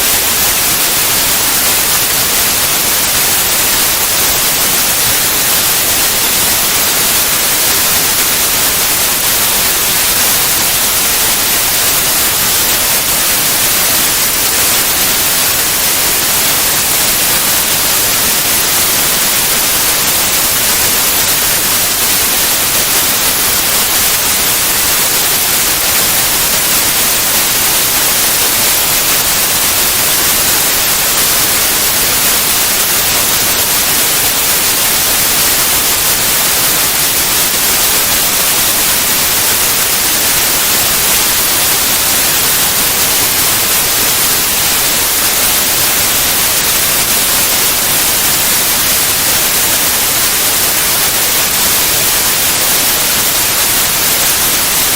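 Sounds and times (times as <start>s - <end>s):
steady white noise hiss: 0.0s - 54.9s.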